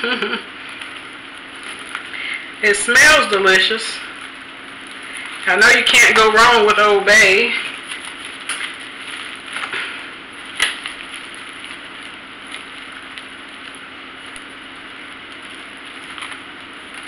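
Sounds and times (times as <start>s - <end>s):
plastic bag crinkling: 0.5s - 17.0s.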